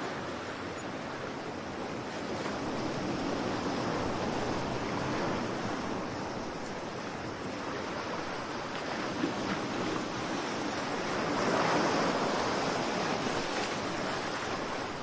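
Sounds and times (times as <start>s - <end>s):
heavy surf breaking on shore: 0.0s - 15.0s.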